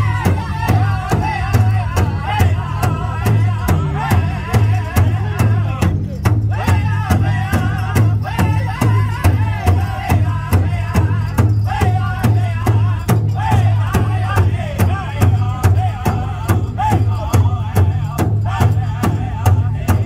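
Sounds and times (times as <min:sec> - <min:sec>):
group singing: 0:00.0 - 0:20.0
large hand drum beating: 0:00.0 - 0:20.0.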